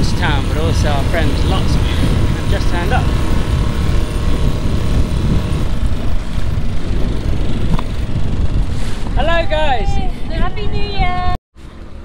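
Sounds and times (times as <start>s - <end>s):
outboard motor running: 0.0s - 9.7s
wind buffeting microphone: 0.0s - 11.4s.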